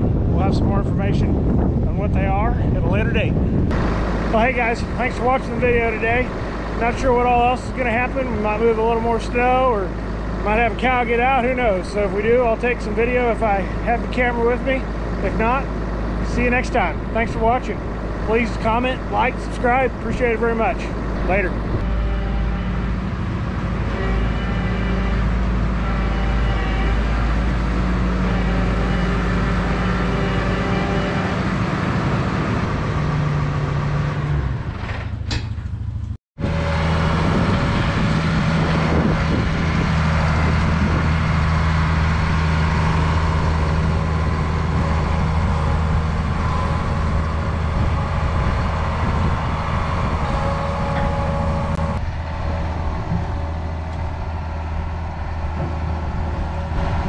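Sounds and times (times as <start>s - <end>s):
vehicle engine running: 1.3s - 57.0s.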